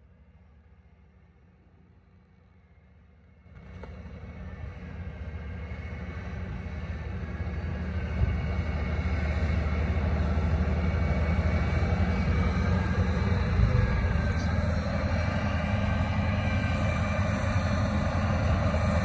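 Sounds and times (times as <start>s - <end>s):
diesel engine running: 0.0s - 19.0s
engine whining note: 3.6s - 19.0s.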